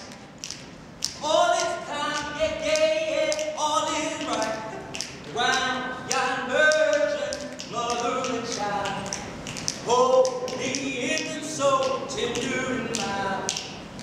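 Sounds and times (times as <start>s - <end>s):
men singing a cappella: 1.2s - 13.8s.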